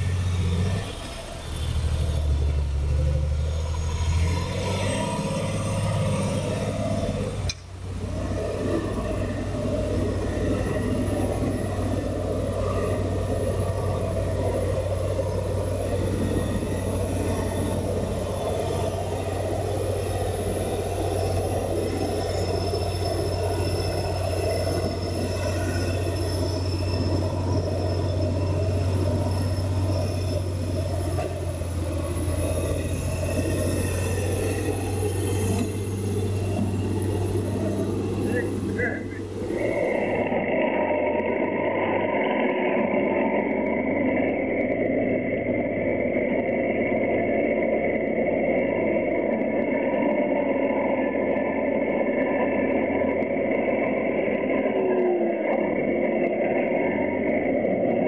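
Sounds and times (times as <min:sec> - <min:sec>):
tractor diesel engine droning: 0:00.0 - 0:58.0.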